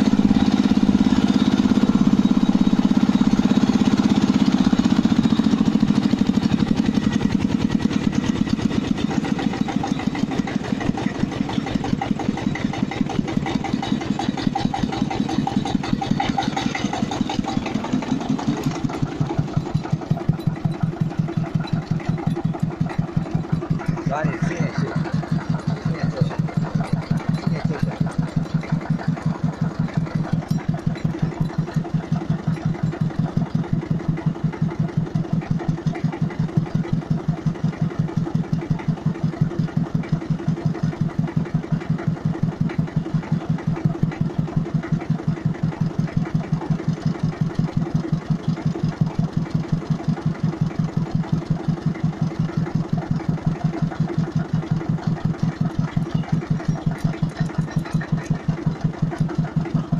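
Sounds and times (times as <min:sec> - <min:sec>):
tractor engine idling: 0:00.0 - 0:59.9.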